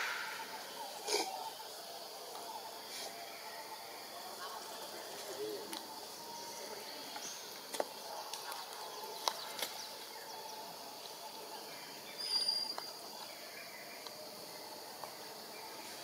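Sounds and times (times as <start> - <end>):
high insect hum: 0.0 - 16.0.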